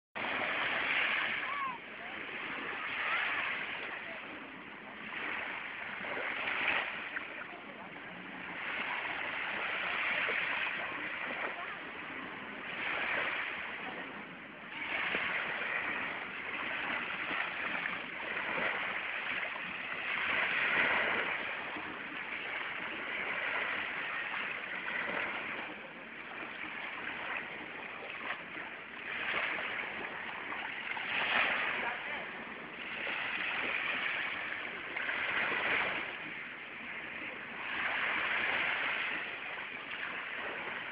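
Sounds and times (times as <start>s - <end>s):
sea waves washing in: 0.2s - 40.9s.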